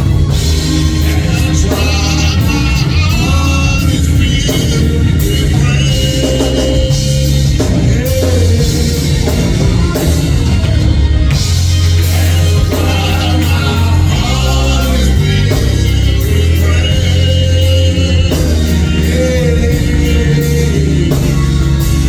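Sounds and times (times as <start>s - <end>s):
bass: 0.0s - 22.0s
drum kit: 0.0s - 22.0s
guitar: 0.0s - 22.0s
voices singing: 0.0s - 22.0s.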